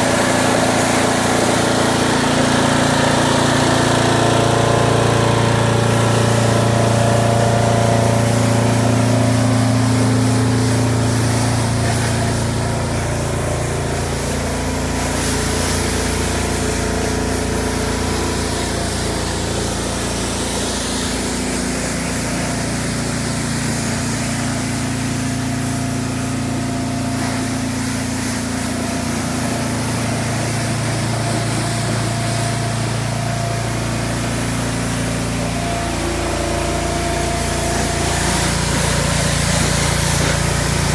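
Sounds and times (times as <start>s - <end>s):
pressure washer motor drone: 0.0s - 40.9s
water spraying onto car: 0.0s - 40.9s.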